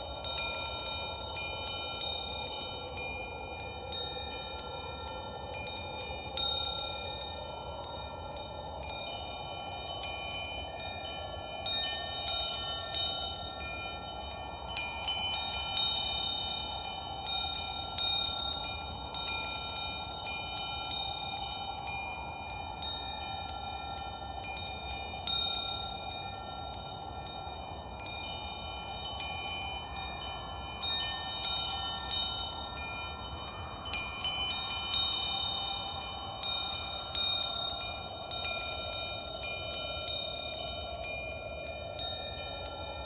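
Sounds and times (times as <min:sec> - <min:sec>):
metal wind chimes ringing: 0:00.0 - 0:43.0.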